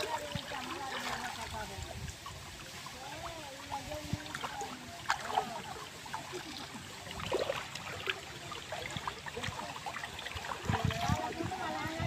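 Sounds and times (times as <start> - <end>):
river water trickling: 0.0 - 12.0
short water splashes: 0.0 - 12.0.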